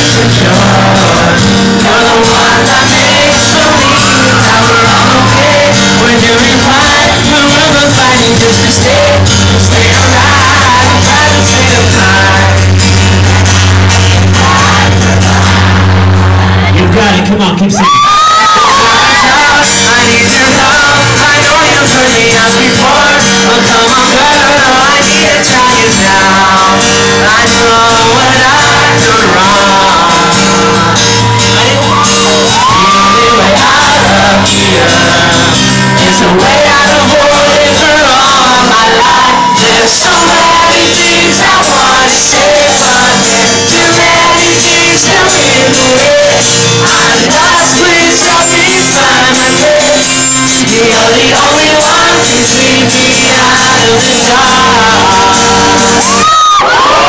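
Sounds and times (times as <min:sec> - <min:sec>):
person singing: 0:00.0 - 0:17.0, 0:18.1 - 0:57.0
crowd singing along: 0:00.0 - 0:57.0
live rock band: 0:00.0 - 0:57.0
shouted vocals: 0:01.9 - 0:09.0, 0:09.8 - 0:16.9, 0:17.6 - 0:21.9, 0:24.2 - 0:49.8, 0:53.3 - 0:57.0.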